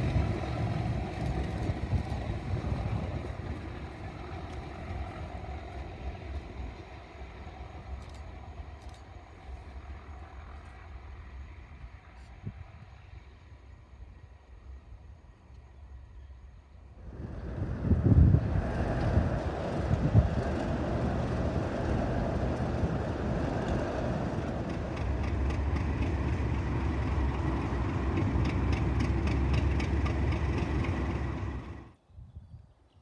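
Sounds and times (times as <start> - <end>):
diesel locomotive engines running: 0.0 - 32.0.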